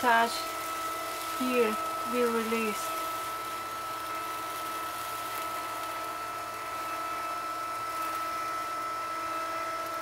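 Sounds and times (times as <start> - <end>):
motor humming with high whine: 0.0 - 10.0.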